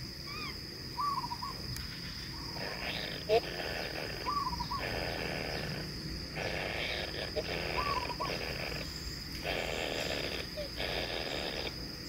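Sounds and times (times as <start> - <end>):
nestlings rasping begging calls: 0.3 - 12.0.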